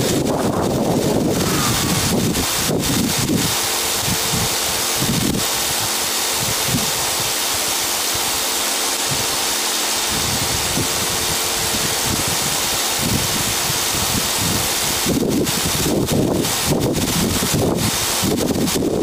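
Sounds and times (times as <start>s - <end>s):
wind gusts on microphone: 0.0s - 7.3s, 10.1s - 19.0s
crushing plant machinery running: 0.0s - 19.0s.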